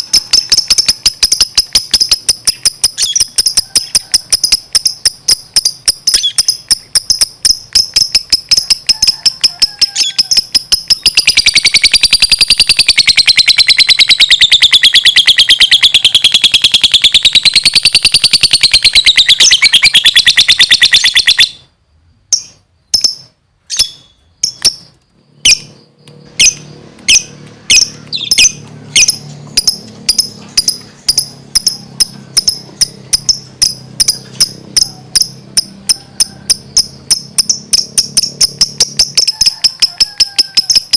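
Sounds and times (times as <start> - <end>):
lovebird chirping and trilling: 0.0 - 21.7, 22.3 - 40.9.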